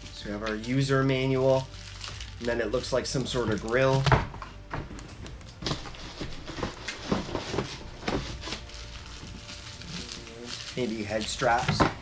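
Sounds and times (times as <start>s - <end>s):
packaging wrap crinkling: 0.0s - 12.0s.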